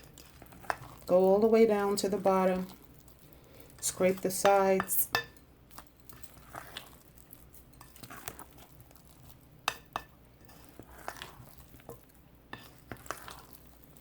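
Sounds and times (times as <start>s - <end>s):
spoon scraping batter in bowl: 0.0s - 14.0s.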